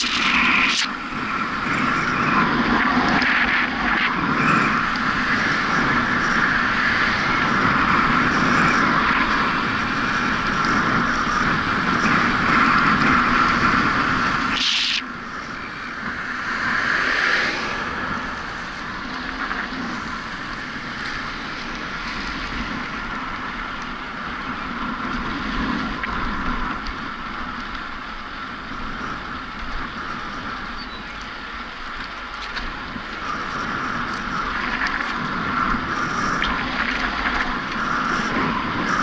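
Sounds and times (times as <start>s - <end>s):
bicycle tyres on asphalt: 0.0s - 39.0s
wind on microphone: 0.0s - 39.0s.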